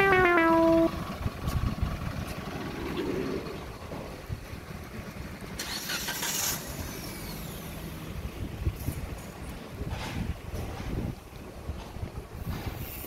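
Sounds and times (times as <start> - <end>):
passing vehicles rumbling: 0.0 - 13.0.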